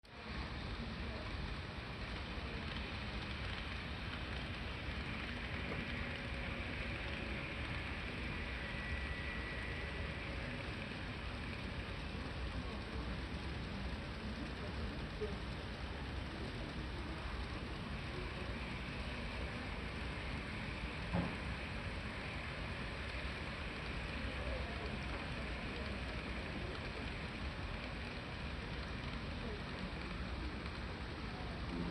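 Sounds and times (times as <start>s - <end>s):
faint motor whine: 0.1s - 31.9s
model train wheels rattling: 0.8s - 31.9s.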